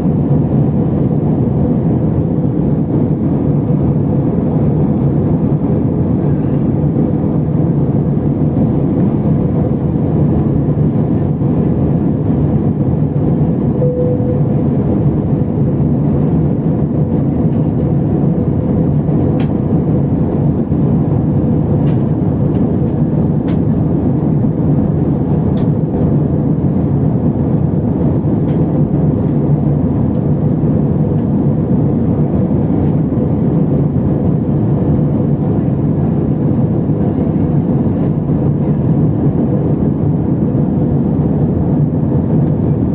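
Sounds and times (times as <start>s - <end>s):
aircraft cabin engine rush: 0.0s - 42.9s.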